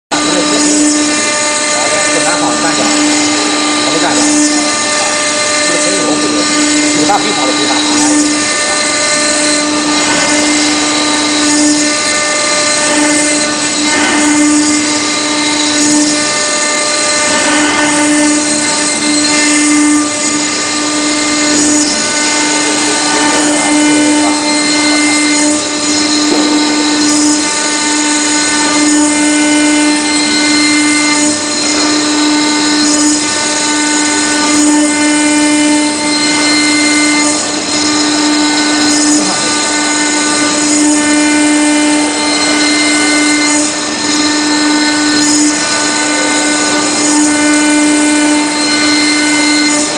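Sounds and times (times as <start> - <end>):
bit grinding marble: 0.1 - 49.9
router spindle whine: 0.1 - 49.9.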